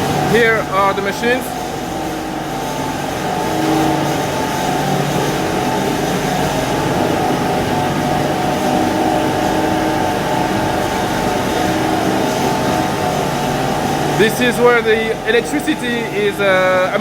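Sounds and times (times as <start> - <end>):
ice machine hum: 0.0 - 17.0.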